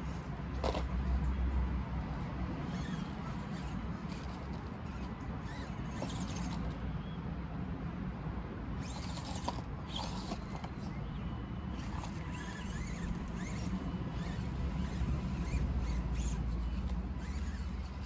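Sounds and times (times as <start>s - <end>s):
tyres scraping on stone: 0.0s - 1.3s, 2.1s - 6.8s, 8.8s - 11.1s, 11.7s - 18.0s
small electric motor whining: 0.0s - 6.8s, 8.8s - 18.0s.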